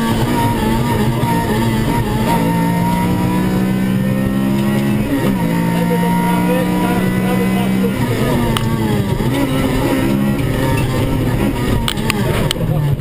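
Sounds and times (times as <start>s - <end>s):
car engine pulling hard: 0.0s - 13.0s
tyre and road noise: 0.0s - 13.0s.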